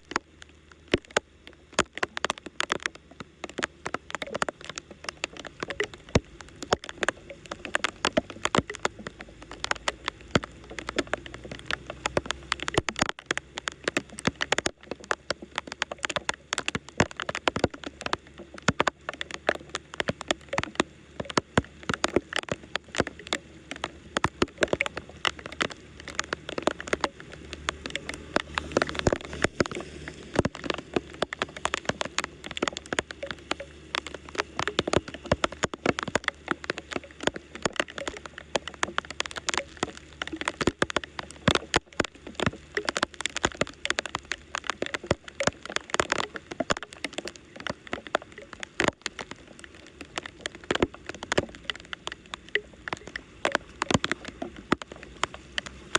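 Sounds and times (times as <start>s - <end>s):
water pattering and splashing: 0.0s - 55.9s.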